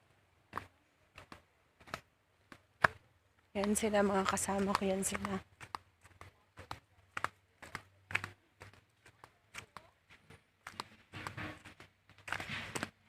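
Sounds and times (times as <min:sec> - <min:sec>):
footsteps on a path: 0:00.0 - 0:13.0.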